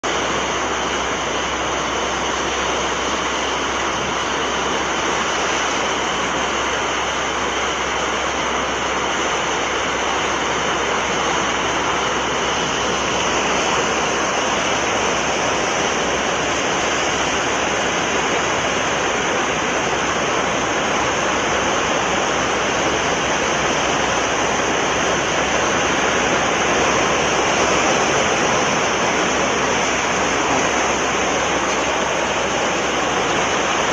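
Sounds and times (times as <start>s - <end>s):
surf rushing: 0.0s - 33.9s.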